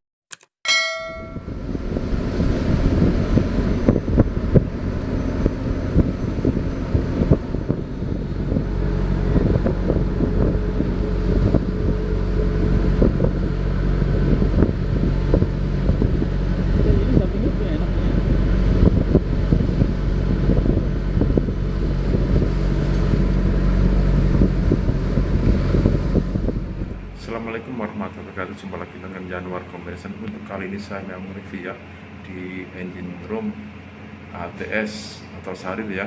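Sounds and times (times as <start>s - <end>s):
engine room machinery drone: 1.0s - 36.0s.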